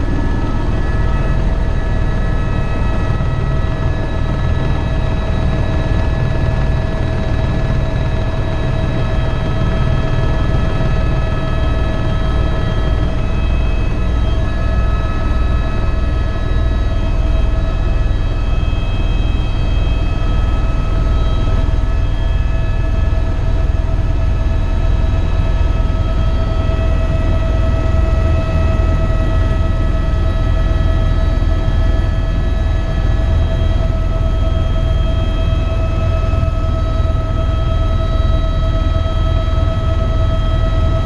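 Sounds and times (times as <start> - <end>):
helicopter rotor and turbine rumble: 0.0 - 41.0
high whine: 0.0 - 41.0.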